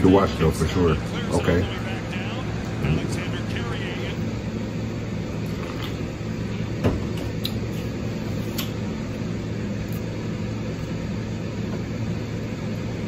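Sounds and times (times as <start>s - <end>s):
droning hum and rushing: 0.0s - 13.0s.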